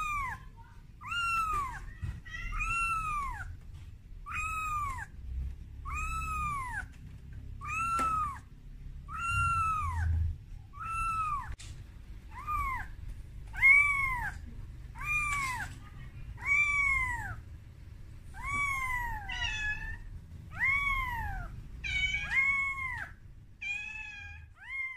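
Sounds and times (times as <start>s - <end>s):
kitten meowing: 0.0s - 3.6s, 4.2s - 11.6s, 12.3s - 17.4s, 18.3s - 24.9s.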